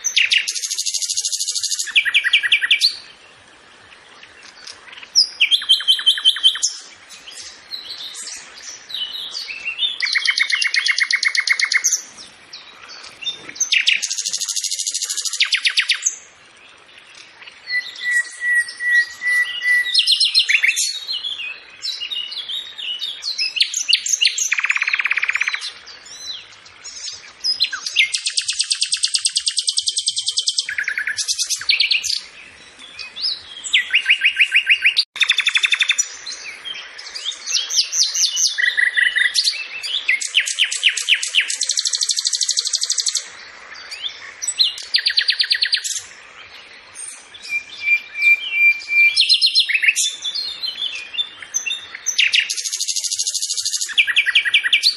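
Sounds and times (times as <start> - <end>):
bird trills and chirps: 0.0 - 3.2, 4.1 - 54.9.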